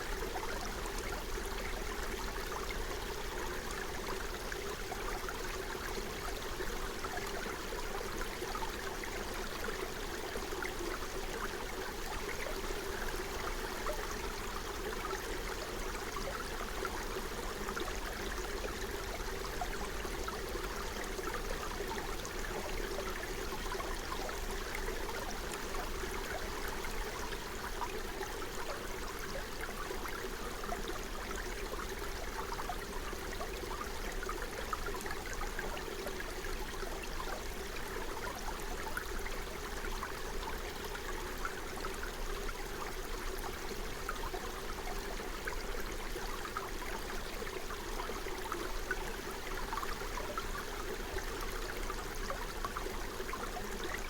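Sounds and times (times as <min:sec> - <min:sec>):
forest stream babbling over stones: 0:00.0 - 0:54.0.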